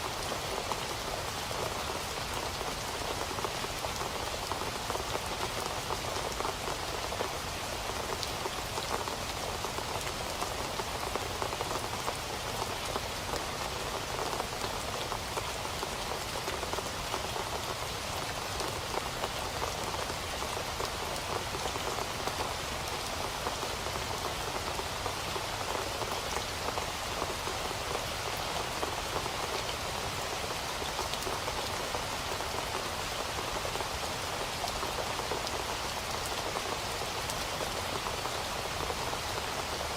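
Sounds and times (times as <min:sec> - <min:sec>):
rain pattering on hard surfaces: 0:00.0 - 0:39.9.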